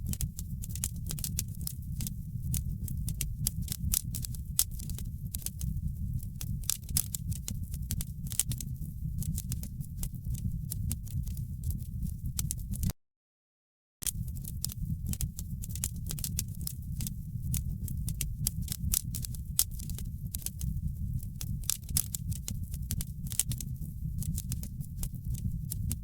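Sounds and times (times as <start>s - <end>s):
wood fire crackling and popping: 0.0s - 12.9s, 14.0s - 26.0s.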